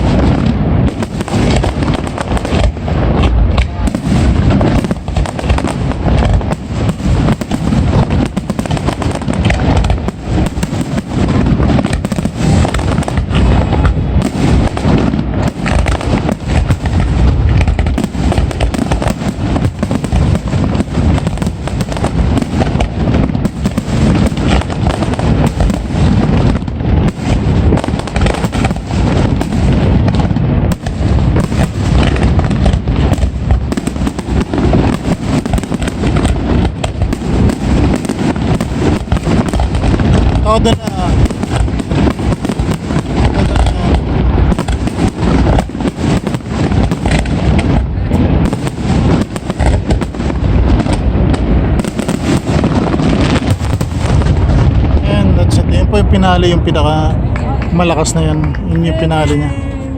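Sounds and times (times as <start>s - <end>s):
fireworks bursts and crackling: 0.0s - 59.9s.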